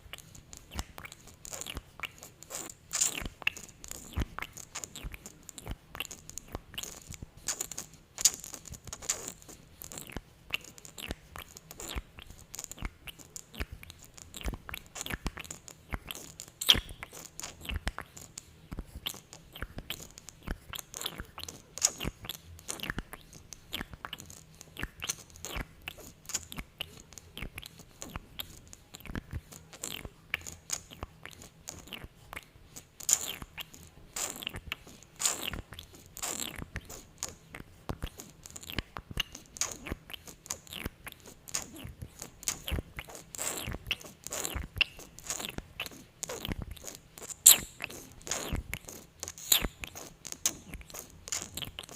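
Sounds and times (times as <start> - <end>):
wet lip clicks and smacks: 0.0 - 51.9.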